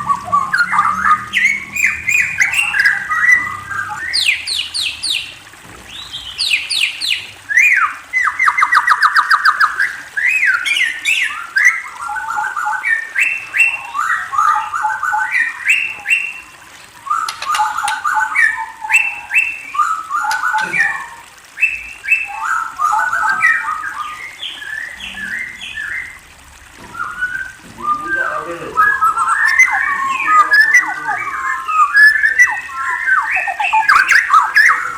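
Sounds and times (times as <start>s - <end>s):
songbird singing: 0.0s - 34.9s.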